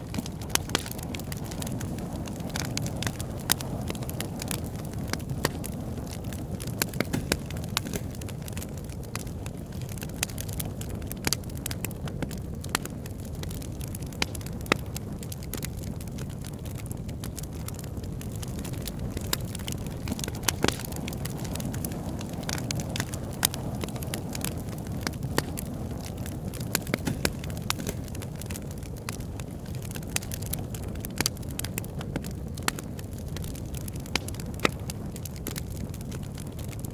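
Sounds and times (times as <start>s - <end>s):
low rush of flames: 0.0s - 36.9s
pops and crackles of burning wood: 0.0s - 36.9s.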